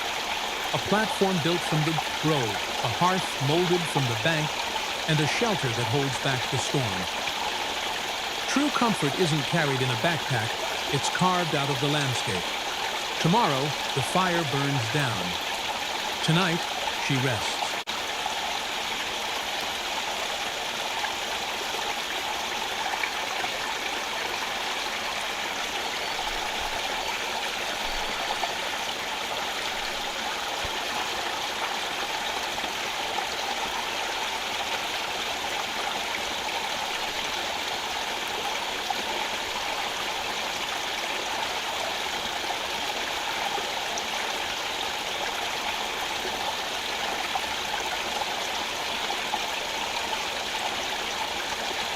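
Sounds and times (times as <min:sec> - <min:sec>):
stream flowing over stones: 0:00.0 - 0:51.9.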